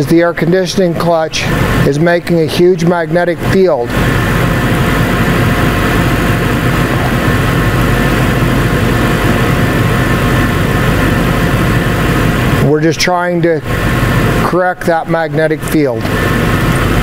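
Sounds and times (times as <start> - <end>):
car engine idling: 0.8 - 17.0.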